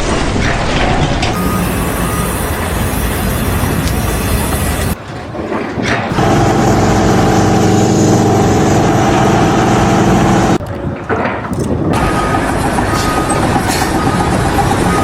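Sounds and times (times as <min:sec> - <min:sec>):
engine running steadily: 0:00.4 - 0:10.8, 0:11.6 - 0:15.0.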